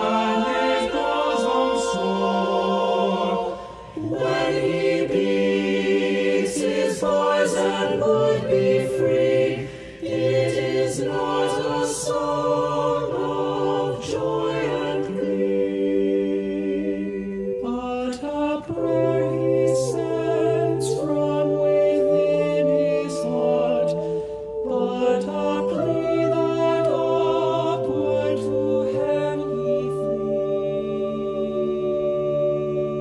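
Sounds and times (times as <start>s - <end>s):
vocal ensemble singing chords: 0.0s - 33.0s.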